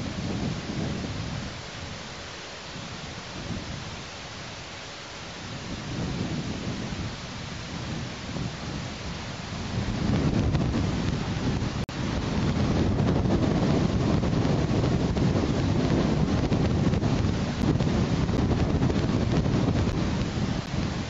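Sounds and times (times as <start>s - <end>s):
wind buffeting microphone: 0.0s - 4.6s, 5.2s - 21.0s
steady hiss: 0.0s - 21.0s.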